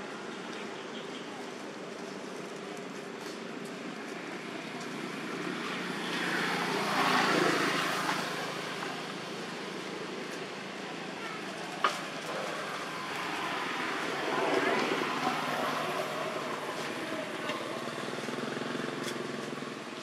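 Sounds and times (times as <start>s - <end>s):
road vehicle passing by: 1.3s - 20.0s.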